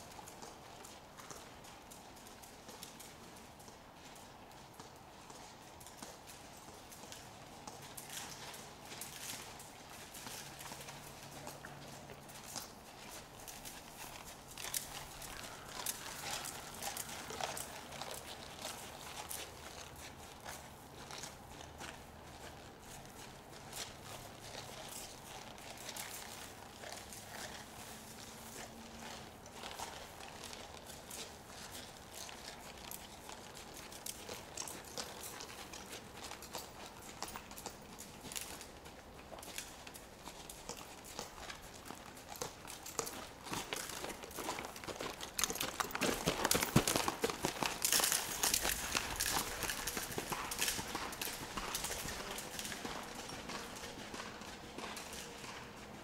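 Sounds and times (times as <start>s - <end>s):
horse hooves trotting on soft ground: 0.0s - 56.0s.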